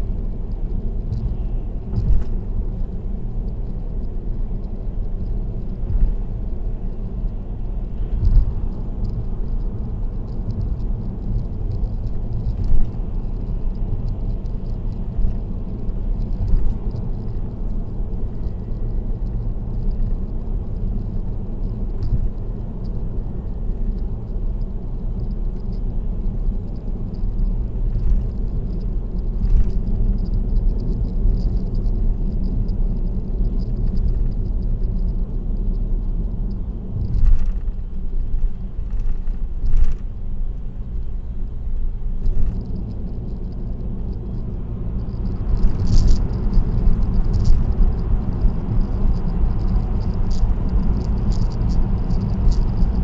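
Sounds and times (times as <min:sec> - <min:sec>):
tyre and engine rumble: 0:00.0 - 0:53.0.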